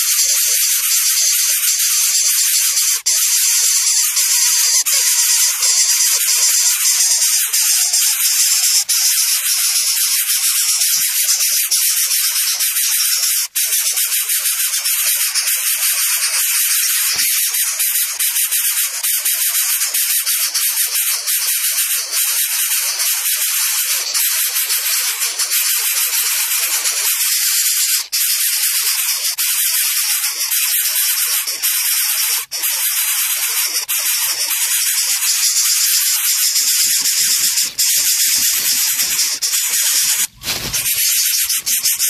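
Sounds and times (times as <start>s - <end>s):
bird nestlings hissing: 0.0s - 42.0s.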